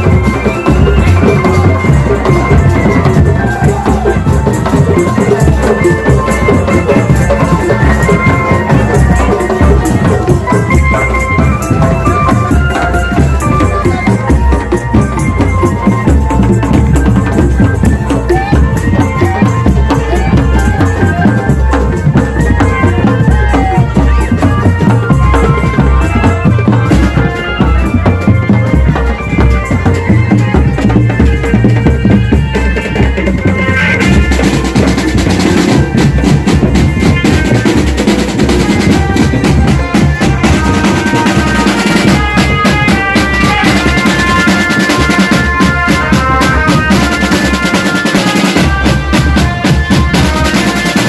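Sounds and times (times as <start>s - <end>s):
busy percussion: 0.0s - 51.0s
sliding melody line: 0.0s - 51.0s.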